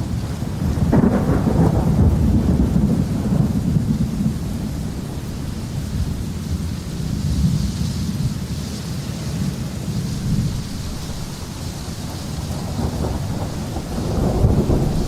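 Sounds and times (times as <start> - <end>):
thunder cracking and rumbling: 0.0 - 8.6, 9.3 - 15.0
steady rainfall: 0.0 - 15.0.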